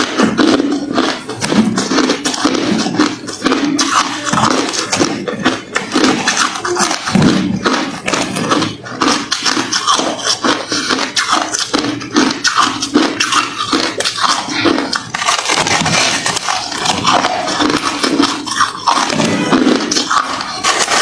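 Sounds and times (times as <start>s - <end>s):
chewing crushed ice: 0.0s - 21.0s.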